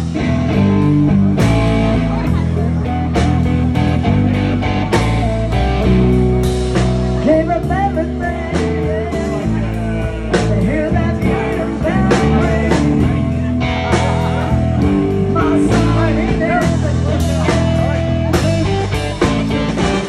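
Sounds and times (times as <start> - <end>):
bass guitar: 0.0 - 20.0
drum kit: 0.0 - 20.0
electric guitar: 0.0 - 20.0.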